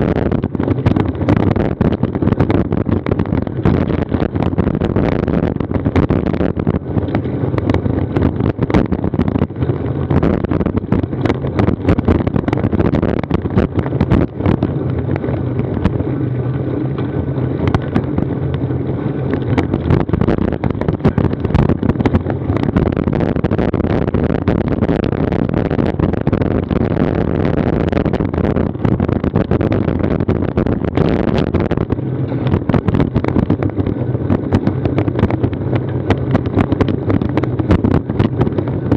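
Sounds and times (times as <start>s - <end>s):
bike clicks and rattles: 0.0s - 38.9s
road and tyre noise: 0.0s - 38.9s
wind buffeting microphone: 0.0s - 38.9s.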